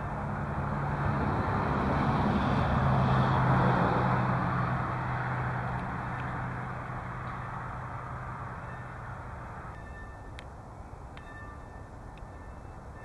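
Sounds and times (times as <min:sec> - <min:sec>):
road vehicle passing by: 0:00.0 - 0:13.0.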